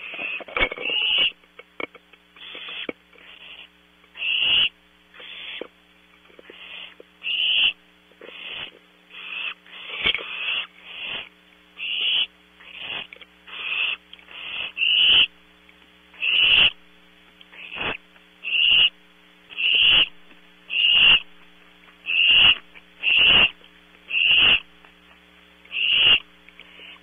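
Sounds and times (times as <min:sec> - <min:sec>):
owl chicks hissing: 0:00.0 - 0:01.4, 0:02.4 - 0:05.7, 0:06.4 - 0:15.4, 0:16.1 - 0:16.8, 0:17.5 - 0:20.1, 0:20.7 - 0:21.3, 0:22.0 - 0:24.7, 0:25.7 - 0:27.0.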